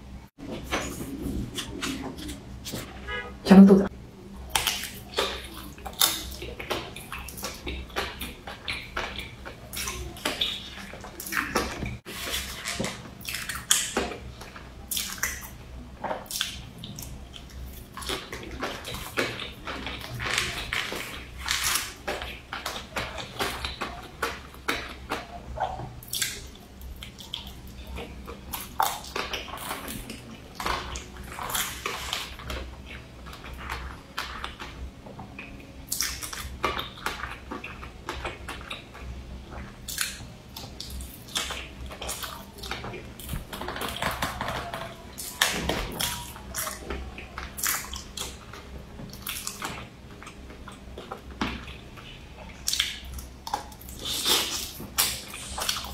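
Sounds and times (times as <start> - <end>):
wet chewing and mouth smacks: 4.4 - 55.9.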